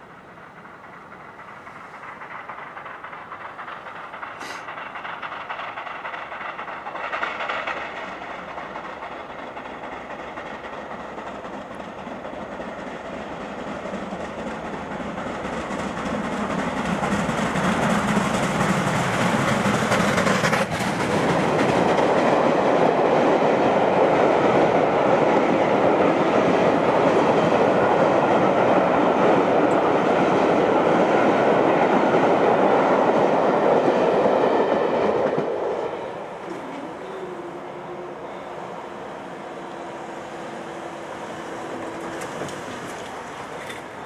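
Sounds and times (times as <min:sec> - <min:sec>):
steam locomotive passing: 0:00.0 - 0:44.0
train wheels on rail: 0:00.0 - 0:44.0.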